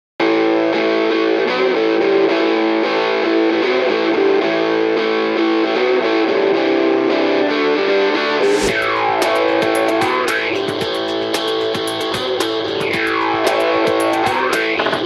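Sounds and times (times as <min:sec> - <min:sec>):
distorted electric guitar music: 0:00.2 - 0:15.0.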